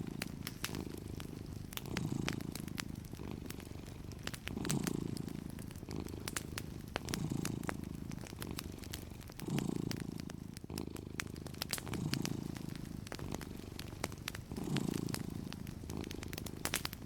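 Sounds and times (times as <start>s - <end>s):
cat purring: 0.0s - 17.0s
wood fire crackling: 0.0s - 17.0s.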